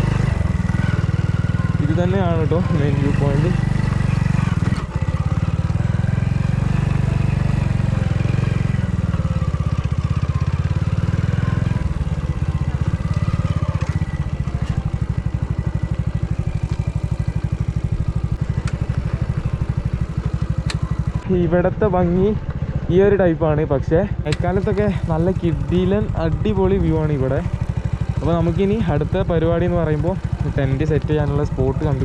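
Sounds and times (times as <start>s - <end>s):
motorcycle engine running slowly: 0.0s - 32.0s.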